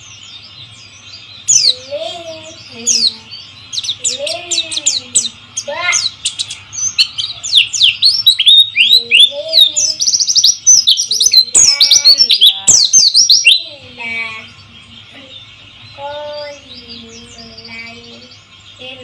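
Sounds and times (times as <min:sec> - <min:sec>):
small bird singing high chirps: 0:00.0 - 0:19.0.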